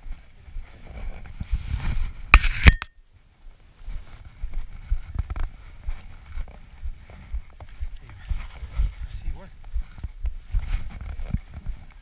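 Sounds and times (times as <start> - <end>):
rumble of tyres: 0.0 - 2.4, 3.5 - 12.0
wind: 0.0 - 12.0.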